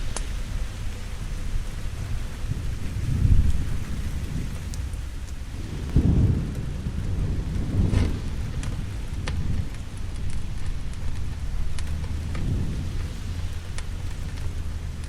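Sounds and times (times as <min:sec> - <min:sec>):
sharp crackles: 0:00.0 - 0:15.0
steady rain: 0:00.0 - 0:15.0
thunder rumbling: 0:00.0 - 0:15.0.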